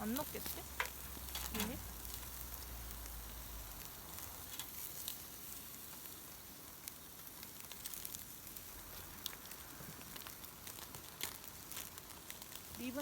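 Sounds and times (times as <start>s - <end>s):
fire crackling: 0.0s - 13.0s
meat sizzling on a grill: 0.0s - 13.0s.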